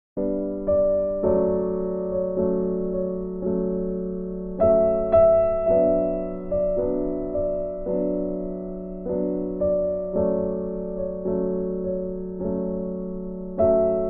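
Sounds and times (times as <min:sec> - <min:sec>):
soft piano music: 0:00.2 - 0:14.0.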